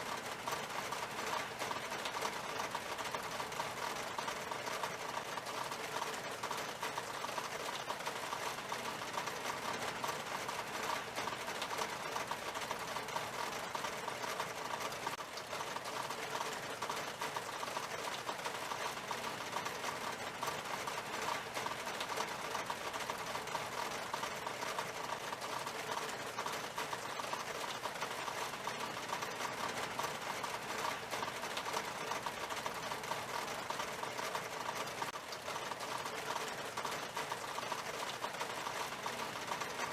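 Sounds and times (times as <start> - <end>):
rain on window glass: 0.0 - 39.9.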